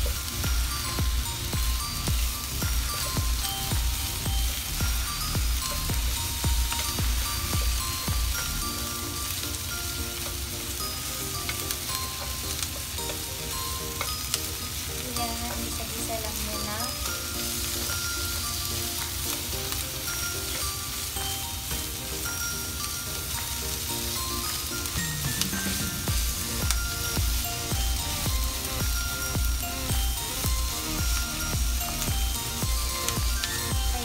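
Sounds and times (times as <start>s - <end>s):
food sizzling in frying pan: 0.0s - 34.0s
chopsticks ticking on pan: 0.1s - 34.0s.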